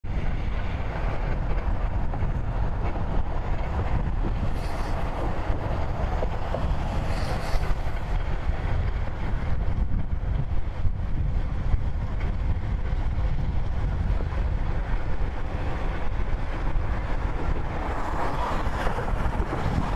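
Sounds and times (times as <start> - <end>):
wind buffeting microphone: 0.0 - 19.9
truck engine and tyres rumbling: 0.1 - 19.9.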